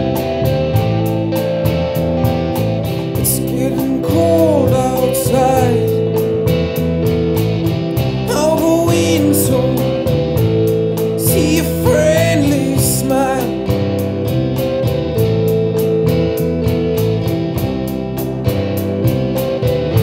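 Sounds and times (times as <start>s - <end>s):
lead guitar bending melody: 0.0s - 20.0s
rock band playing: 0.0s - 20.0s.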